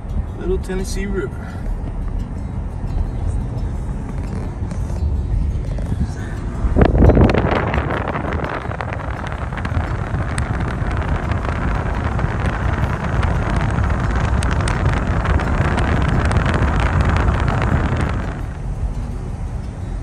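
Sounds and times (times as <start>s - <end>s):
car road and engine rumble: 0.0s - 20.0s
wind rushing over microphone: 3.6s - 20.0s.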